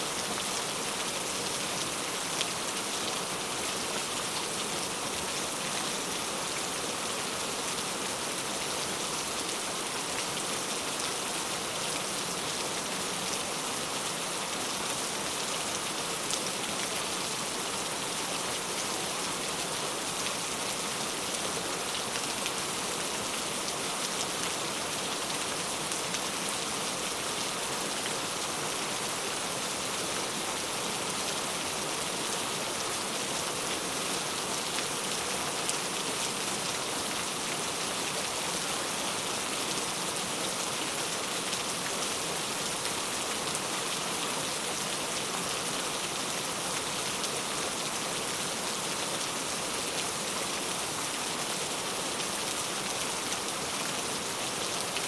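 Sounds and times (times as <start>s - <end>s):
rain on hard surface: 0.0s - 55.0s.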